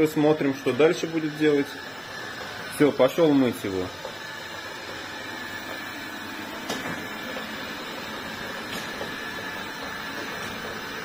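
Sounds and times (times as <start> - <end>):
robot vacuum hum: 0.0 - 11.0.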